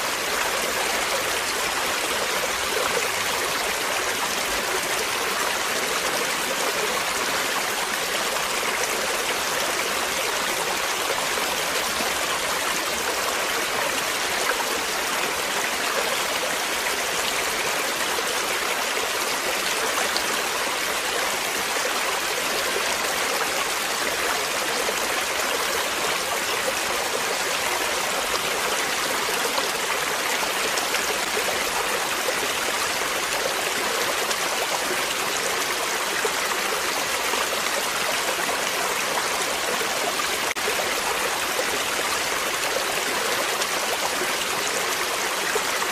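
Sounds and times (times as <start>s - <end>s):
stream flowing: 0.0s - 45.9s.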